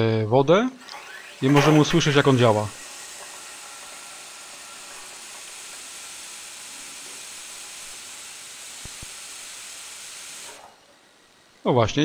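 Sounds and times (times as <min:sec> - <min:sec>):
radiator air vent hissing: 0:01.7 - 0:12.0.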